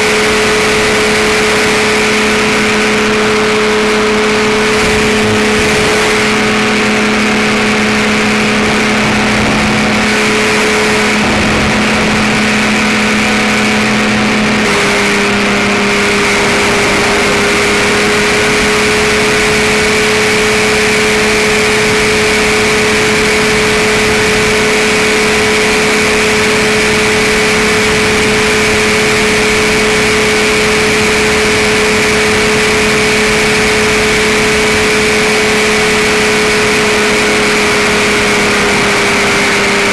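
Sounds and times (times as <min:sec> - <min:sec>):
engine and propeller drone: 0:00.0 - 0:39.9.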